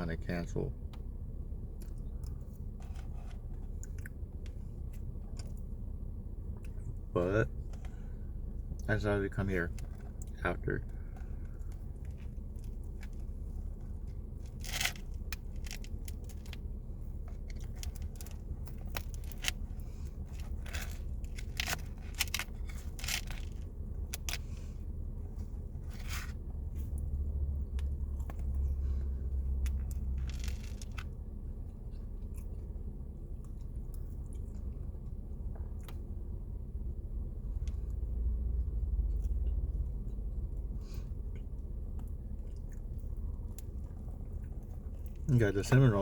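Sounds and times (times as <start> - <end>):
steady low rumble: 0.0 - 46.0
chewing pastry: 1.8 - 5.8, 9.7 - 36.6, 37.8 - 45.9.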